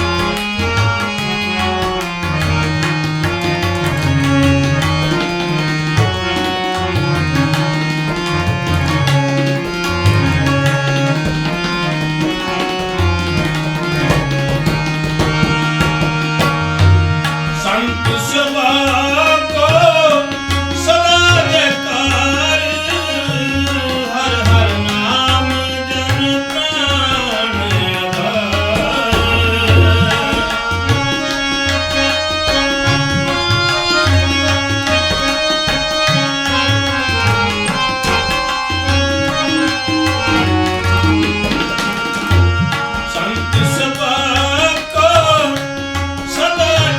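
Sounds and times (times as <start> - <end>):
wavering melody: 0.0 - 17.9, 18.6 - 43.3
sustained harmonium notes: 0.0 - 46.9
tabla playing steady rhythm: 0.0 - 46.9.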